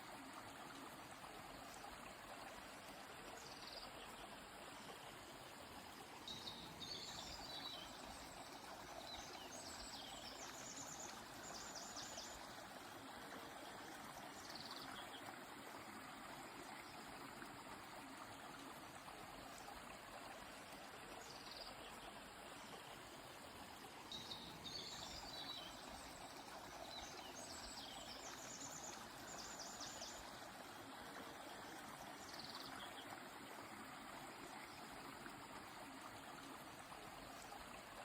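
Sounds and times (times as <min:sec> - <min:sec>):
river flowing: 0:00.0 - 0:38.0.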